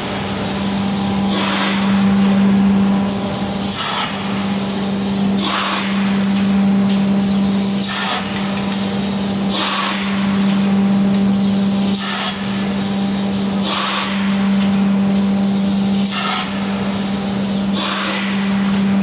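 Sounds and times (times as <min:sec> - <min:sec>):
machine hissing: 0:00.0 - 0:19.0
machine humming: 0:00.0 - 0:19.0.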